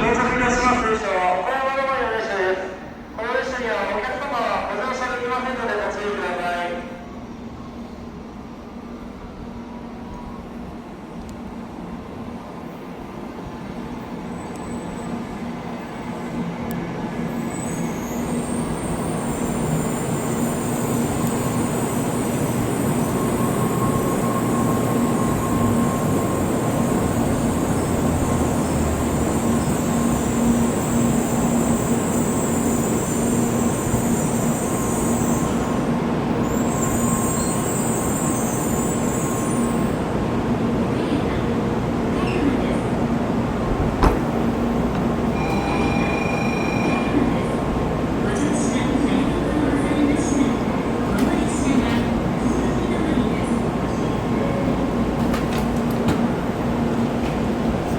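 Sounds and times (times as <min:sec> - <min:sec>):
train arriving with low hum: 0:00.0 - 0:57.9.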